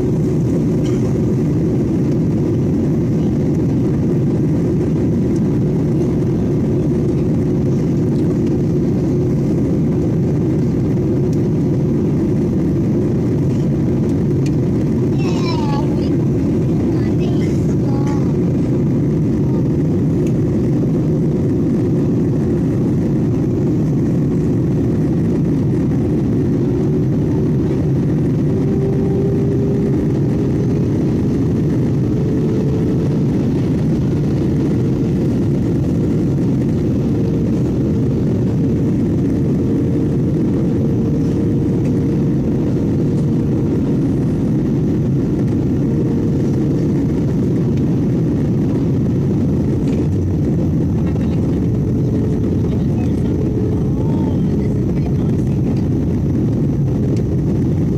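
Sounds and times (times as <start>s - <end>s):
jet engines and rushing air: 0.0s - 57.9s.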